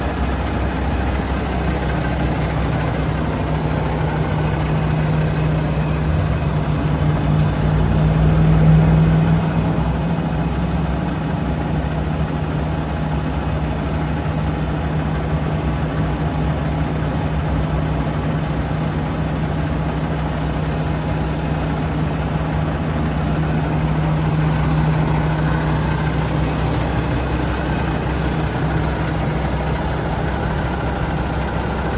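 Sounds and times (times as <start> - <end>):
truck diesel engine idling: 0.0 - 31.9.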